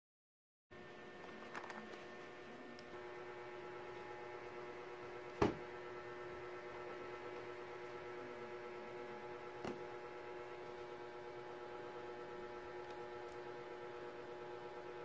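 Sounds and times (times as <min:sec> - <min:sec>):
low electrical hum: 0:00.7 - 0:15.0.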